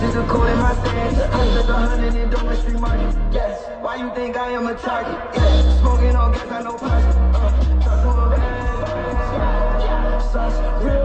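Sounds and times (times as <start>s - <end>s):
deep bass line: 0.0s - 3.5s, 5.4s - 11.0s
hip-hop track: 0.0s - 11.0s.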